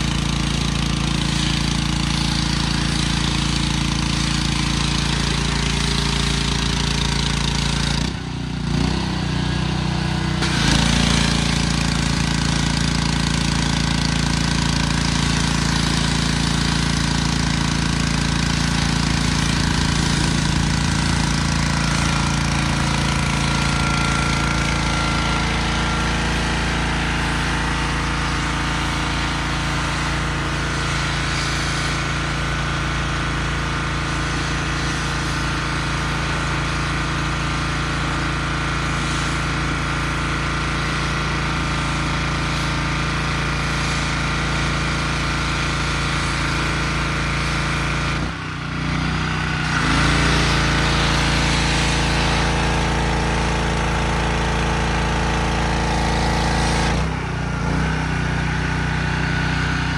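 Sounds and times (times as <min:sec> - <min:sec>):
water jet spraying: 0:00.0 - 0:09.0, 0:10.3 - 0:48.1, 0:49.4 - 0:57.9
small gas engine running: 0:00.0 - 0:59.9.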